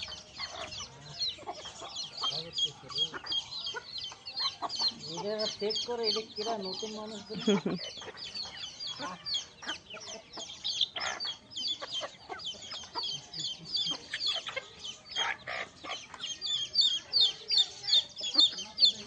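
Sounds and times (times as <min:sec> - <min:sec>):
chickens clucking and cheeping: 0:00.0 - 0:19.0.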